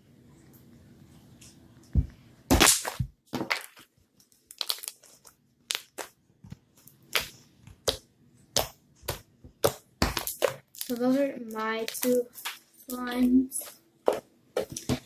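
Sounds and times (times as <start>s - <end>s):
slime squelching: 2.5s - 15.0s.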